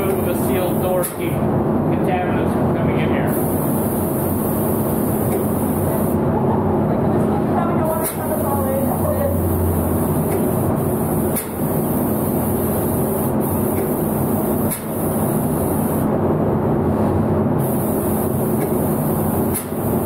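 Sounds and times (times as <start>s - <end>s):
shop machinery humming: 0.0s - 20.0s.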